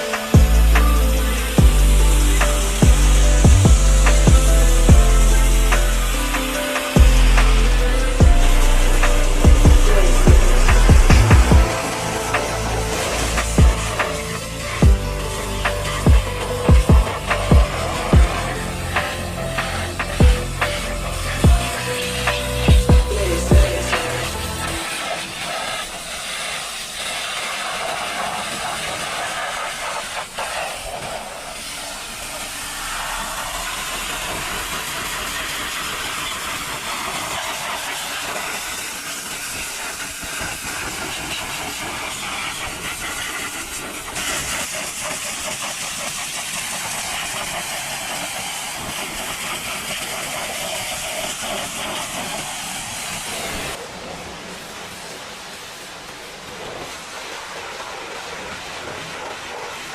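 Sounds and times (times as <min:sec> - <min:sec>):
high-pressure water spray hissing: 0:00.0 - 0:59.9.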